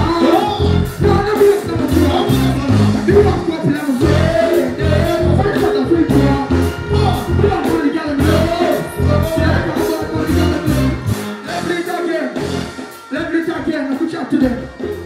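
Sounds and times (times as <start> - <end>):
heavy bass beat: 0.0 - 13.7
dancehall music over sound system: 0.0 - 15.0.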